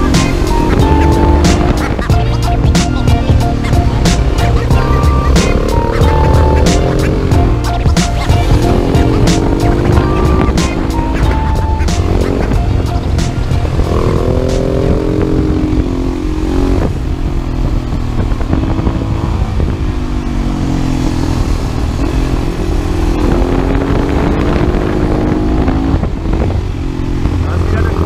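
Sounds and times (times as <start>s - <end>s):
motorcycle engine accelerating: 0.0s - 28.0s
wind and road noise: 0.0s - 28.0s.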